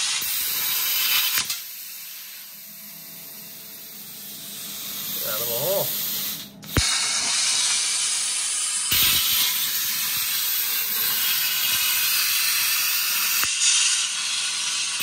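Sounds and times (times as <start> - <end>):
plasma cutter arc hissing: 0.0 - 15.0.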